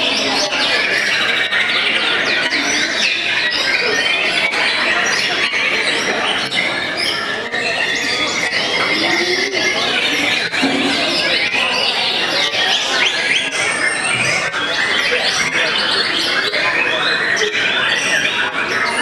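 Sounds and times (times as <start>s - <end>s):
birds singing: 0.0s - 19.0s.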